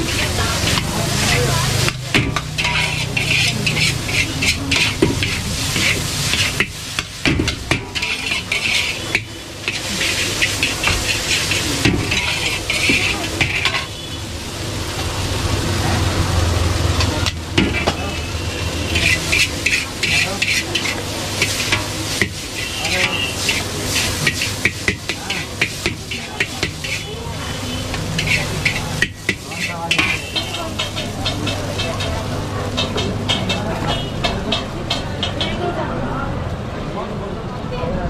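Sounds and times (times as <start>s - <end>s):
metal scraping and clinking on wok: 0.0s - 14.0s, 16.9s - 35.8s
noodles sizzling in a wok: 0.0s - 36.3s.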